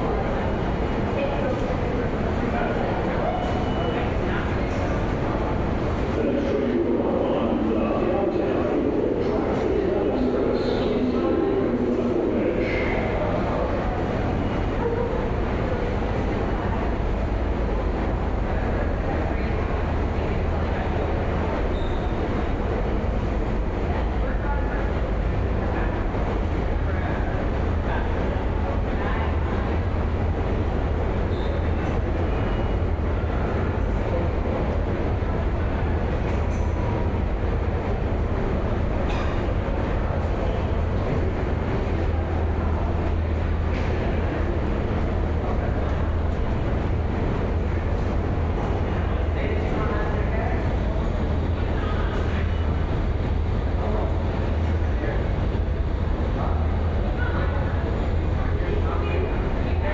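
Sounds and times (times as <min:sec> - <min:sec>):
subway train rumble: 0:00.0 - 0:59.9.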